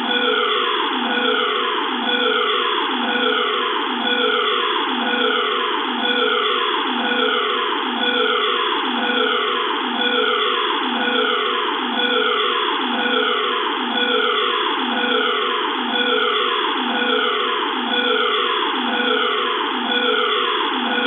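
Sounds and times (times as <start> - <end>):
evacuation alarm falling sweep tone: 0.0 - 21.0.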